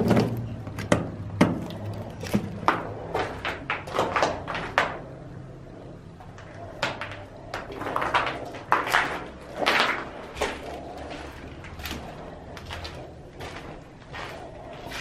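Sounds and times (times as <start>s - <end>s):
knocks clatters and scrapes: 0.0s - 5.2s, 6.2s - 15.0s
steady low hum: 0.0s - 15.0s.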